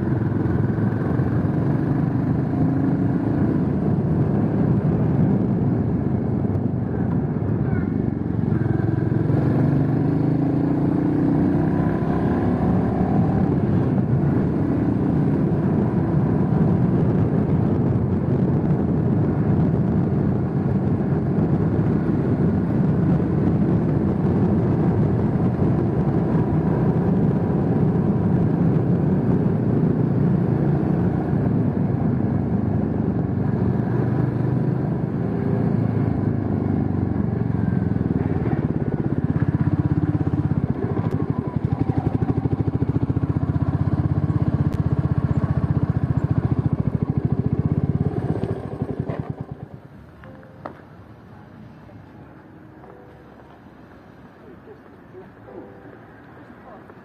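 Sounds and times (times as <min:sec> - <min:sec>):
motorcycle engine accelerating: 0:00.0 - 0:50.1
wind and road rumble: 0:00.0 - 0:57.0.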